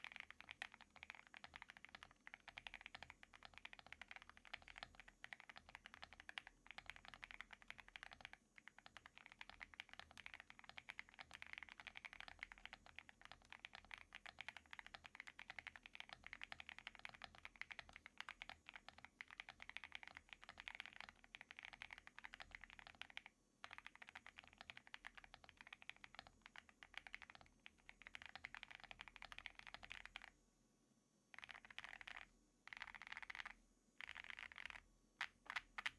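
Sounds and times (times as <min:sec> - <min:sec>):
mechanical keyboard typing: 0:00.0 - 0:30.3, 0:31.4 - 0:35.9.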